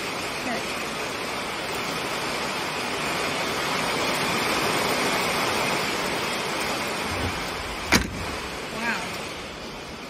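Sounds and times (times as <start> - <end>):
heavy rain: 0.0 - 10.0
wind: 0.0 - 10.0.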